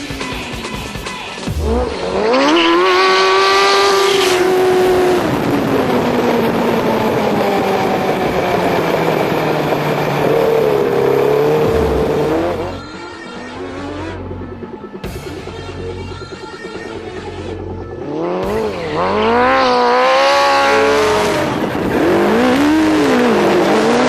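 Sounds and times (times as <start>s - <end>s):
kart engine accelerating hard: 1.4s - 15.1s, 17.9s - 24.0s.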